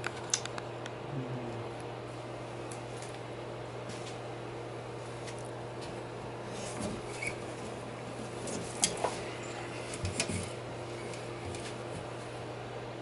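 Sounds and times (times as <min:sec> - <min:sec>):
low electrical hum and hiss: 0:00.0 - 0:13.0.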